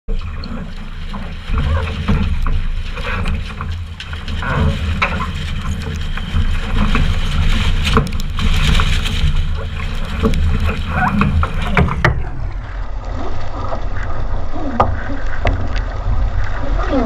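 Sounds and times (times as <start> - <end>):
water rushing along a hull: 0.1 - 17.0.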